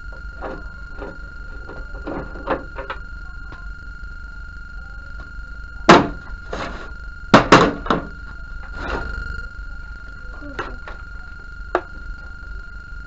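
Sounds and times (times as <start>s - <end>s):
steady high-pitched tone: 0.0s - 13.0s.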